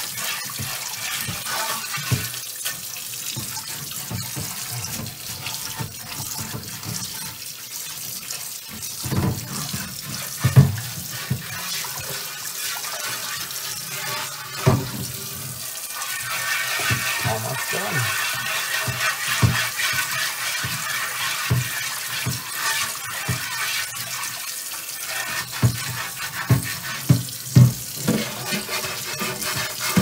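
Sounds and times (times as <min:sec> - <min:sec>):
chain mail scrubber scouring a pan: 0:00.0 - 0:07.4, 0:08.1 - 0:30.0
tap water splashing into a pan: 0:00.0 - 0:30.0.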